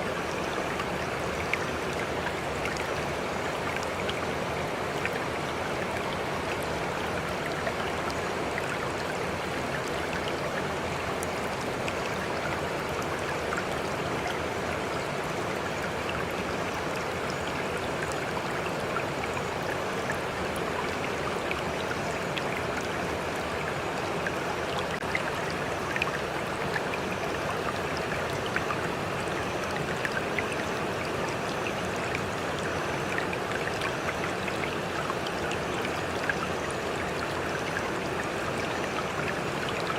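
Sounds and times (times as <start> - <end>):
water flowing with splashes: 0.0 - 39.9.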